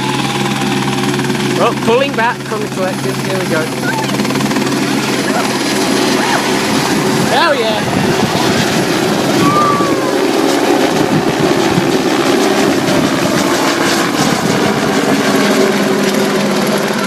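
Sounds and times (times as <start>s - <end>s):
helicopter engine running: 0.0s - 17.0s
helicopter rotor blades chopping: 0.0s - 17.0s.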